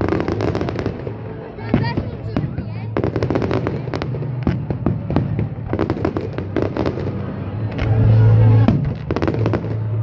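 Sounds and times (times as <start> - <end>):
fireworks bursting with bangs: 0.0 - 10.0
fireworks crackling: 0.0 - 10.0.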